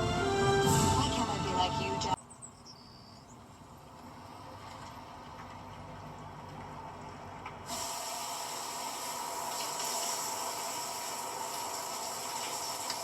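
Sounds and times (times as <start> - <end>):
hissing film soundtrack noise: 0.0 - 2.2, 3.3 - 13.0.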